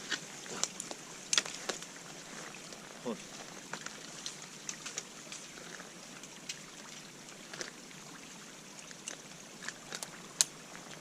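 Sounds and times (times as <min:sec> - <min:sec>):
meltwater trickling: 0:00.0 - 0:11.0.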